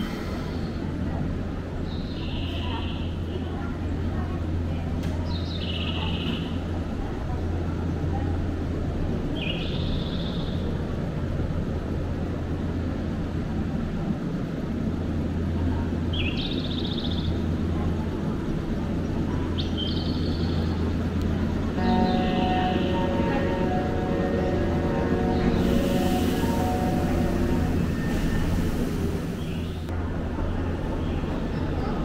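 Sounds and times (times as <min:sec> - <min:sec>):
electric train humming: 0:00.0 - 0:32.0.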